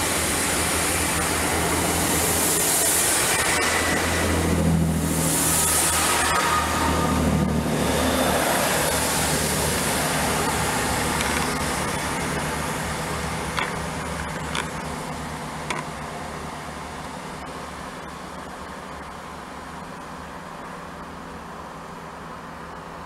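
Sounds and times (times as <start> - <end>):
diesel train passing: 0.0 - 23.0.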